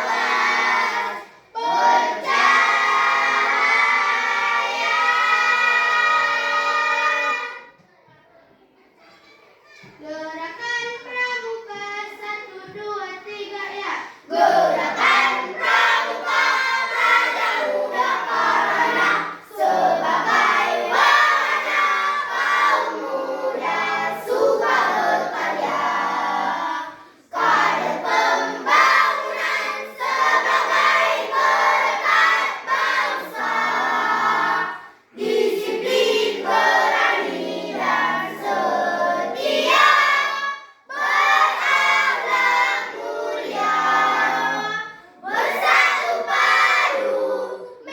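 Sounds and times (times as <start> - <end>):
choir singing: 0.0 - 7.7, 14.3 - 47.9.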